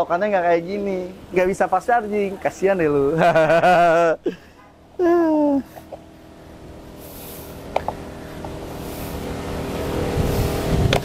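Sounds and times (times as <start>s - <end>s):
car approaching: 0.0s - 11.0s.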